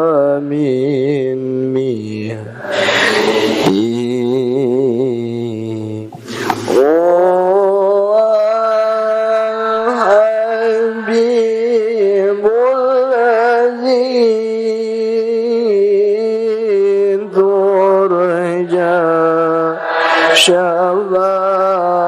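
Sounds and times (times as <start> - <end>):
person chanting devotional verses: 0.0 - 22.0.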